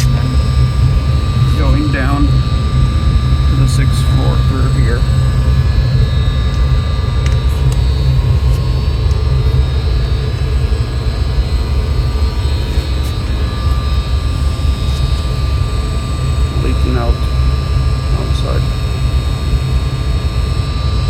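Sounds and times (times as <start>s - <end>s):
high whining tones: 0.0s - 21.0s
machinery rumbling: 0.0s - 21.0s.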